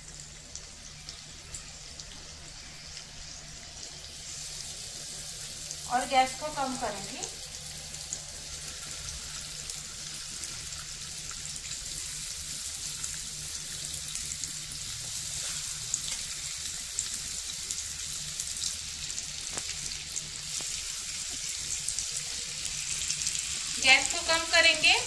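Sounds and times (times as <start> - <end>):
kebabs sizzling in hot oil: 0.0 - 25.0.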